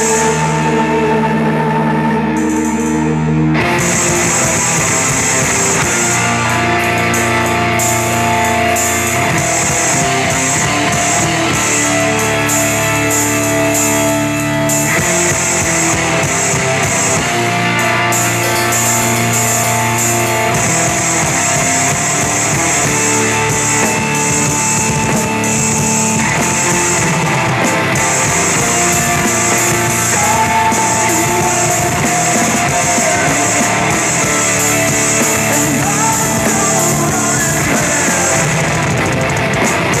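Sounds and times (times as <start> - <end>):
heavy rock music: 0.0 - 40.0
drum kit playing: 2.4 - 40.0.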